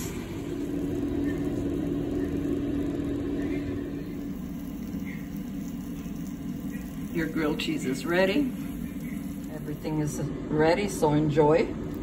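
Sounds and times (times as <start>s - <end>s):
kitchen appliance motor hum: 0.0s - 12.0s.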